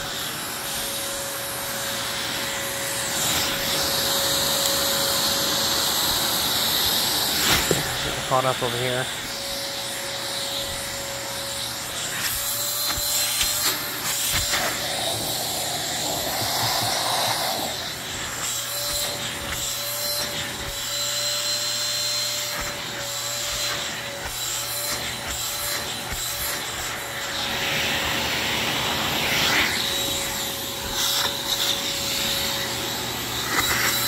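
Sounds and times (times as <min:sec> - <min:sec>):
vacuum cleaner motor whine: 0:00.0 - 0:34.0.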